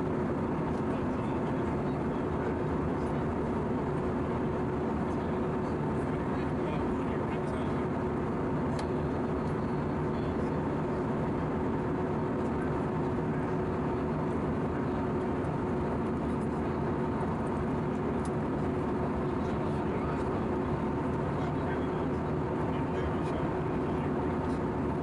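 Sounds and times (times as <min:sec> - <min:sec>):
airplane cabin airflow and engine: 0:00.0 - 0:25.0
steady hum: 0:00.0 - 0:25.0.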